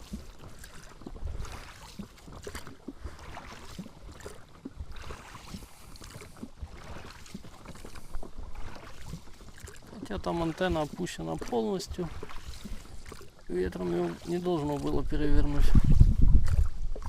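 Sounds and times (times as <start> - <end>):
oars knocking: 0.0 - 17.0
oars swishing through water: 0.0 - 17.0.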